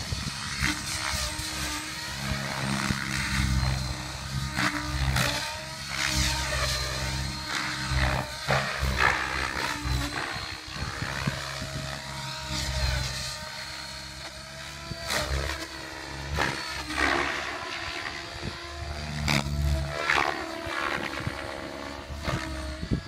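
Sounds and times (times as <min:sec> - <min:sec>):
helicopter rotor whine: 0:00.0 - 0:23.0.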